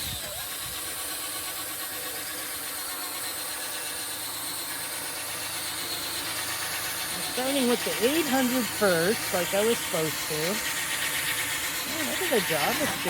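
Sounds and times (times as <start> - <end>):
electric drill sanding plastic: 0.0 - 13.0.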